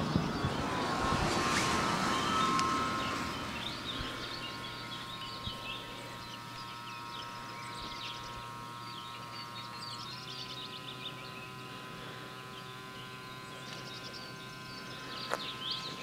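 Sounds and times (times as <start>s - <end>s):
faint steady hum of tones: 0.0s - 16.0s
songbirds chirping: 0.0s - 16.0s.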